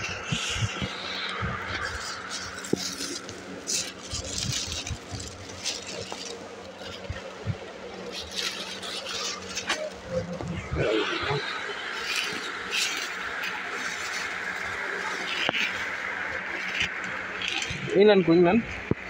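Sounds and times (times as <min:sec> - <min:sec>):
steady low hum: 0:00.0 - 0:19.0
plastic bags crinkling: 0:00.8 - 0:17.8.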